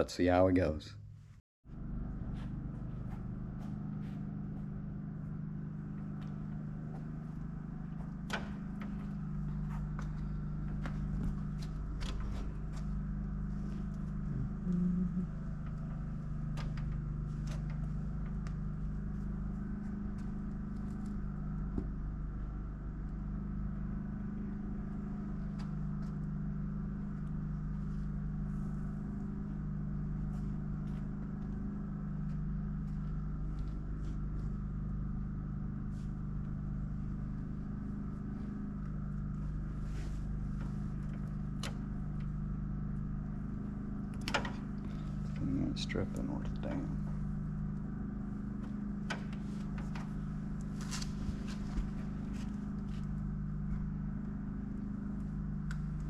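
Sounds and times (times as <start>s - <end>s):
engine drone: 0.0s - 56.0s.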